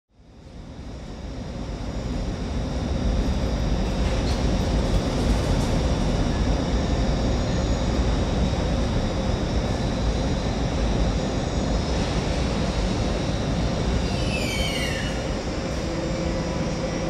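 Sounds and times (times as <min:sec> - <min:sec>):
train low rumble: 0:00.1 - 0:17.0
high-pitched electrical whine: 0:00.3 - 0:17.0.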